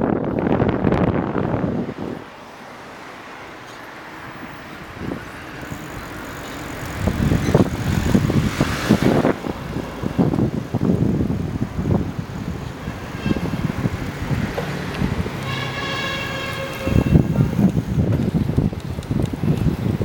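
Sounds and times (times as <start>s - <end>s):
wind buffeting the microphone: 0.0s - 2.4s, 4.4s - 20.0s
vehicle passing: 0.3s - 18.6s.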